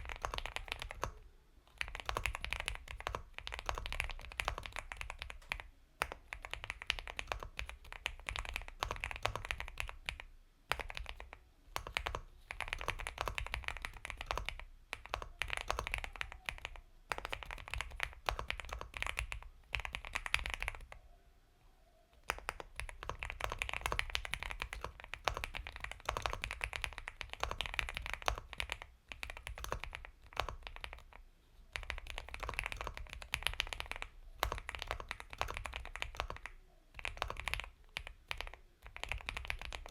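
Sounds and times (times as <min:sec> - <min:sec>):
mechanical keyboard typing: 0:00.0 - 0:21.0, 0:22.2 - 0:39.9.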